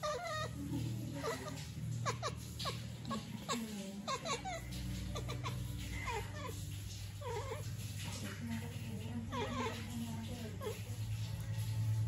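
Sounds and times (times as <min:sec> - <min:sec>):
kitten chattering: 0:00.0 - 0:11.3.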